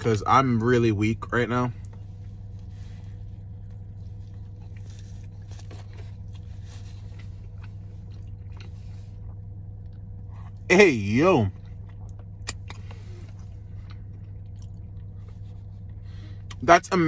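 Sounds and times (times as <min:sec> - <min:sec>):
steady low hum: 0:00.0 - 0:17.0
man chewing food: 0:01.8 - 0:10.7, 0:11.5 - 0:16.6.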